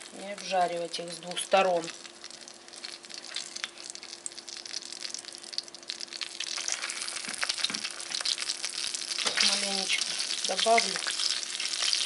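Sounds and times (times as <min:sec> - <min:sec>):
hot oil sizzling in a frying pan: 0:00.0 - 0:12.0.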